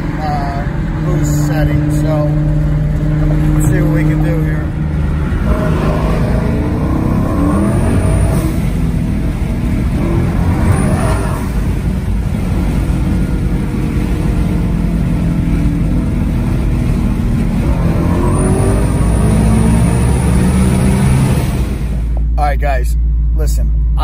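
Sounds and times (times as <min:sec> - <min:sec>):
car engine accelerating hard: 0:00.0 - 0:22.2.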